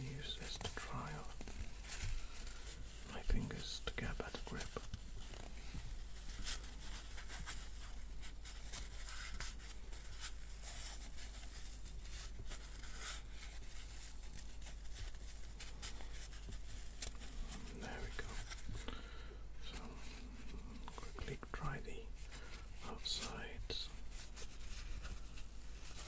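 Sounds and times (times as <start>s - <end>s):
faint low hum: 0.0s - 26.0s
paper towel rustling and rubbing: 0.0s - 26.0s.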